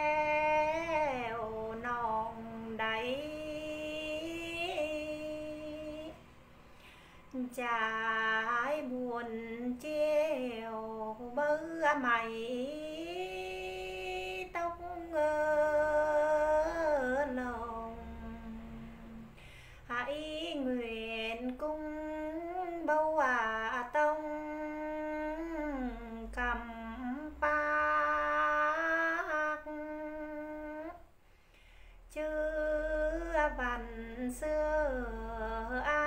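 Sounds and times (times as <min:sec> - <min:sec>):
woman singing unaccompanied: 0:00.0 - 0:06.4, 0:07.3 - 0:31.1, 0:32.1 - 0:36.0.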